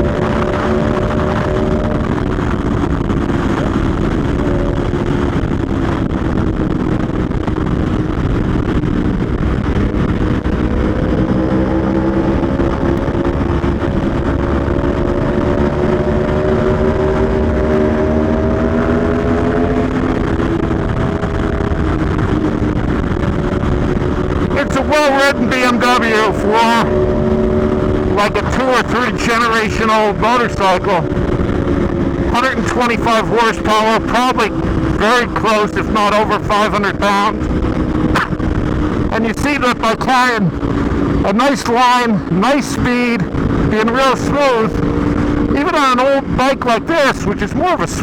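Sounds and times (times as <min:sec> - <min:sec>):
motorcycle engine running hard: 0:00.0 - 0:48.0
wind rushing: 0:00.0 - 0:48.0.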